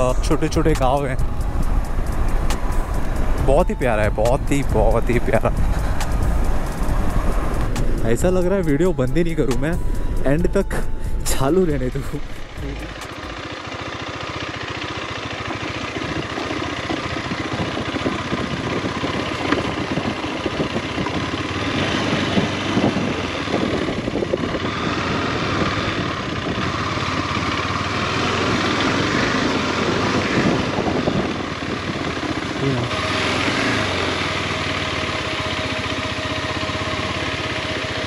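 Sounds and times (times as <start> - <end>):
motorcycle engine running: 0.0 - 38.0
wind and road noise: 0.0 - 38.0.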